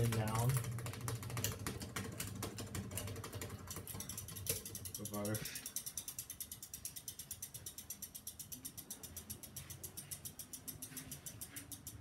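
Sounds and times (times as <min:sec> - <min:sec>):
ceiling fan ticking: 0:00.0 - 0:12.0.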